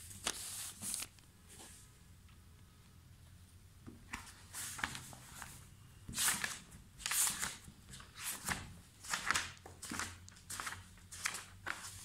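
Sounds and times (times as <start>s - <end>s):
paper and pen rustling: 0.0s - 1.8s, 4.1s - 12.0s.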